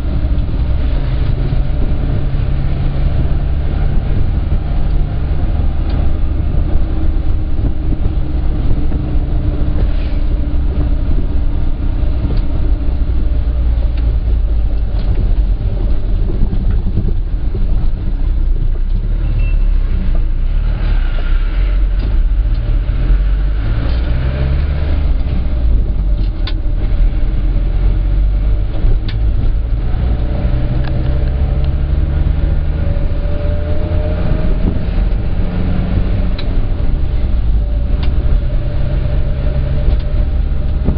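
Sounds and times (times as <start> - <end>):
minibus engine and road noise: 0.0 - 40.9.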